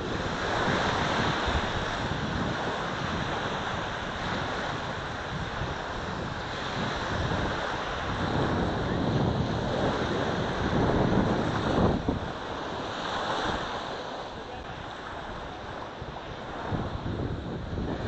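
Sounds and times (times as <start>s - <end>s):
waves washing on shore: 0.0s - 18.0s
wind buffeting microphone: 0.0s - 18.0s.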